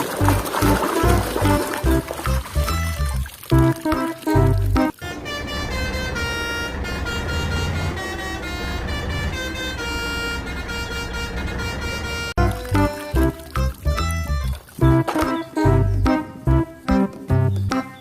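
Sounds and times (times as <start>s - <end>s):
engine rumble: 0.0s - 17.7s
horn-like tones changing pitch: 0.0s - 18.0s.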